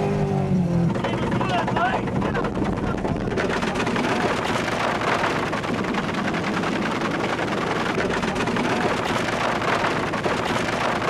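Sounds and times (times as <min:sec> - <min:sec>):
road noise: 0:00.0 - 0:11.0
wind buffeting microphone: 0:00.9 - 0:11.0.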